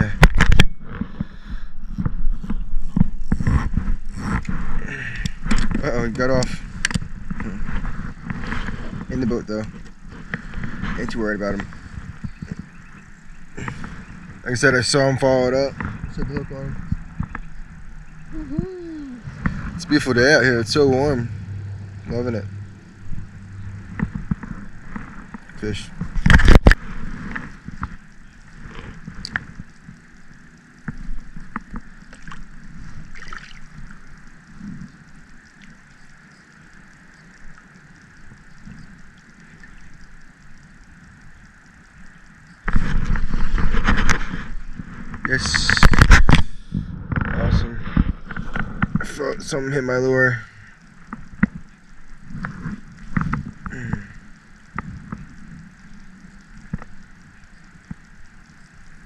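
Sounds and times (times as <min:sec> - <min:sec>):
low steady rumble: 0:00.0 - 0:59.0.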